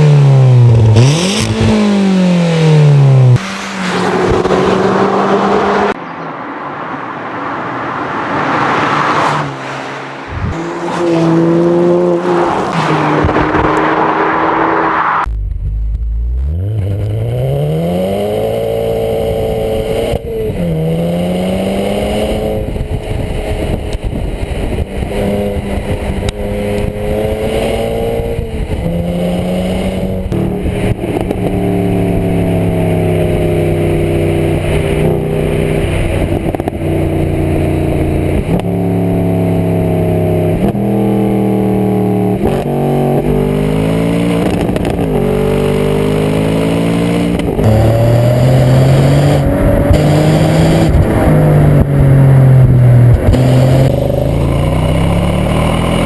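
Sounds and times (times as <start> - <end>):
car engine accelerating hard: 0.0 - 6.0, 7.7 - 56.0.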